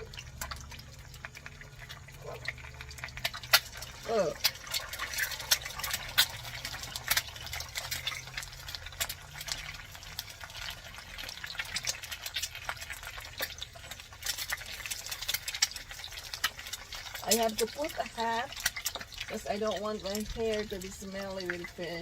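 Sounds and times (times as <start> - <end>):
egg sizzling in hot oil: 0.0 - 22.0.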